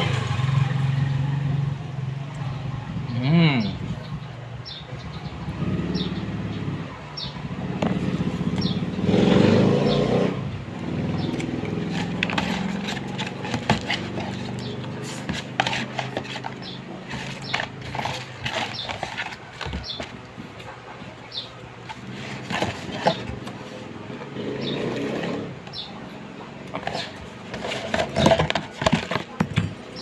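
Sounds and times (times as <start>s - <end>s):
vehicle engine humming: 0.0s - 30.0s.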